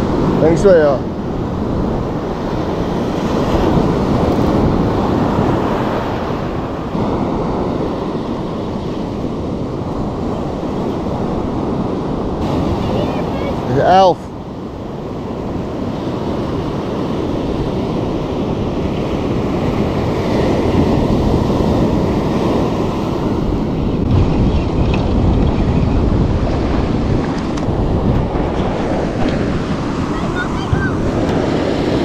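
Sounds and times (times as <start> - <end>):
ocean surf on beach: 0.0 - 32.0
wind on microphone: 0.0 - 32.0.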